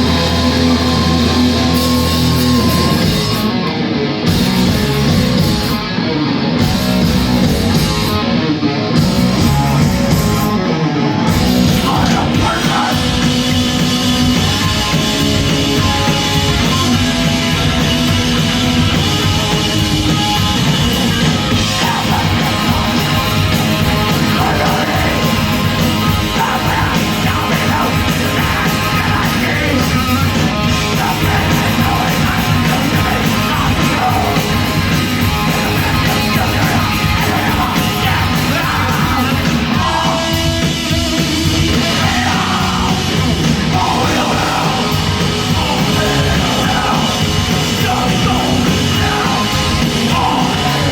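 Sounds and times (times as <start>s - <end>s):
distorted guitars: 0.0s - 50.9s
drums: 0.0s - 50.9s.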